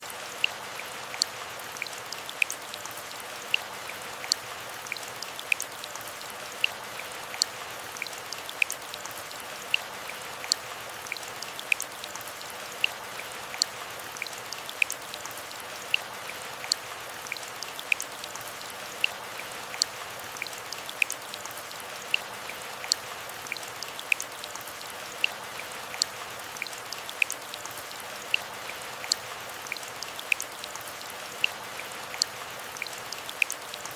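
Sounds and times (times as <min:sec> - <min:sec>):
gentle rain hiss: 0:00.0 - 0:33.9.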